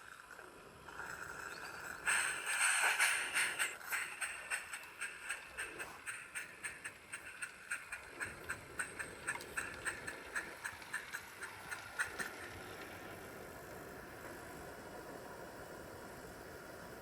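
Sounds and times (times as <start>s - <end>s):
steady steam hiss: 0.6s - 17.0s
model steam locomotive chuffing: 1.1s - 17.0s.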